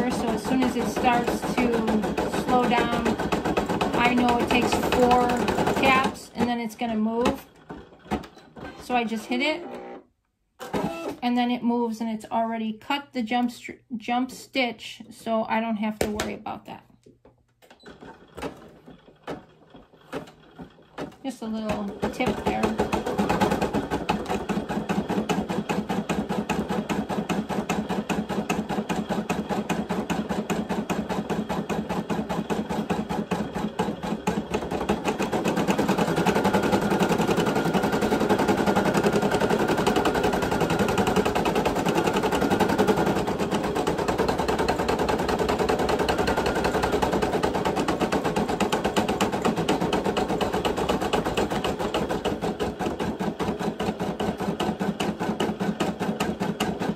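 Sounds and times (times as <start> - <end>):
embroidery machine stitching: 0.0 - 11.2, 17.7 - 56.9.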